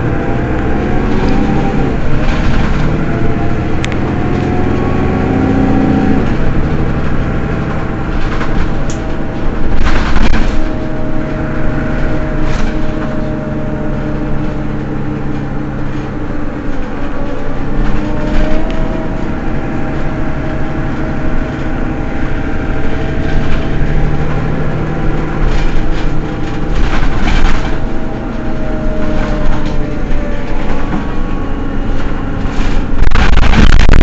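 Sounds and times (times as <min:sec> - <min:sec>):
bus engine idling: 0:00.0 - 0:34.0.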